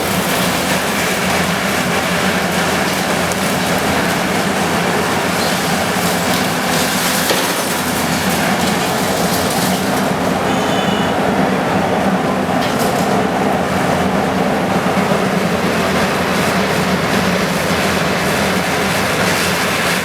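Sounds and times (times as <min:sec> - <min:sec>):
bulldozer engine drone: 0:00.0 - 0:20.0.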